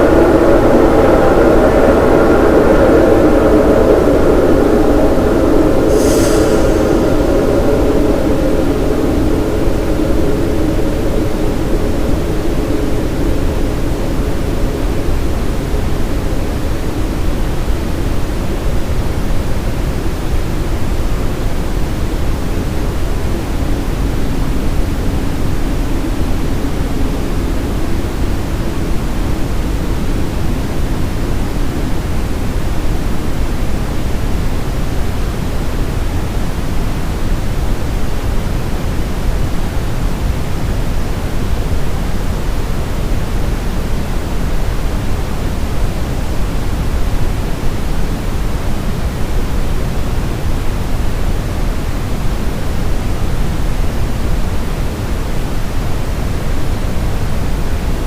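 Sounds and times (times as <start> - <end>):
brown noise hiss: 0.0 - 58.0.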